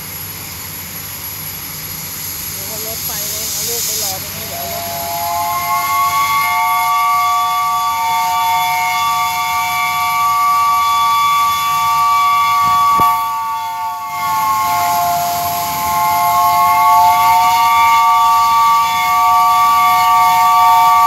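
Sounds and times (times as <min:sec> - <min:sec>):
steam locomotive whistle: 0:02.6 - 0:21.0.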